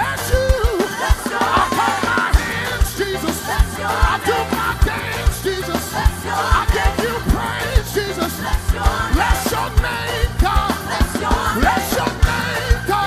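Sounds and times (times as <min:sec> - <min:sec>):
driving drum beat: 0:00.0 - 0:13.0
electric guitars: 0:00.0 - 0:13.0
keyboard: 0:00.0 - 0:13.0
singers: 0:00.0 - 0:13.0.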